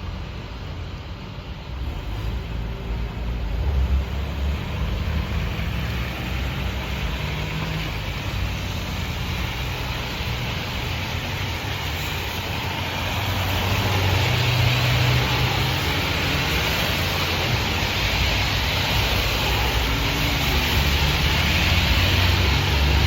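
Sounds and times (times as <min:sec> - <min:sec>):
road noise on wet road: 0:00.0 - 0:23.0.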